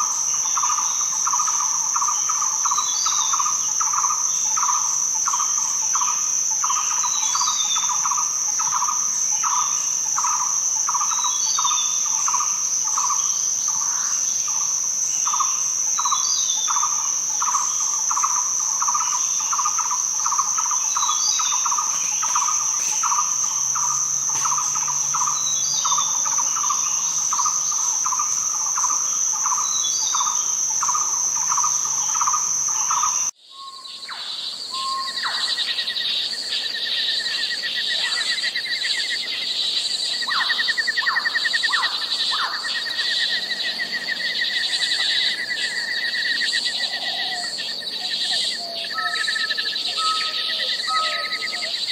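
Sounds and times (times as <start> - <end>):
cricket trill: 0.0 - 51.9
lower insect chirping: 0.0 - 51.9.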